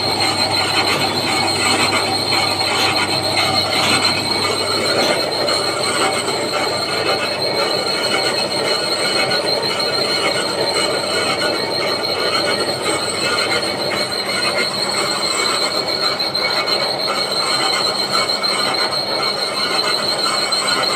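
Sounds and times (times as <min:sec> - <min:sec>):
high steady whine: 0:00.0 - 0:20.9
machine running noise: 0:00.0 - 0:20.9.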